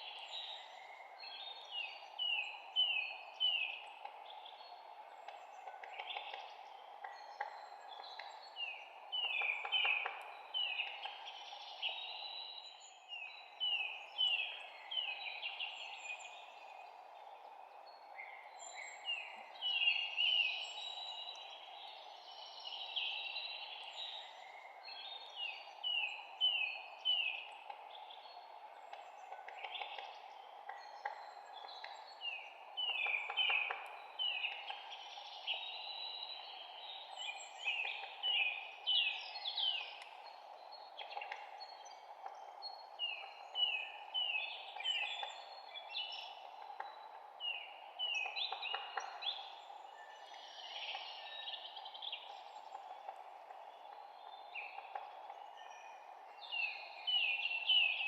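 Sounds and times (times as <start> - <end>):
low background hiss: 0.0 - 58.0
songbirds chirping: 0.0 - 58.0.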